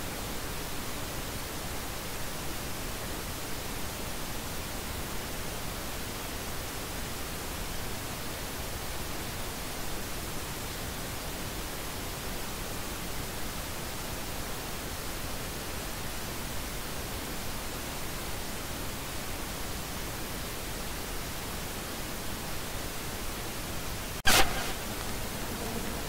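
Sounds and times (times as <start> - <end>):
static noise hiss: 0.0 - 26.0.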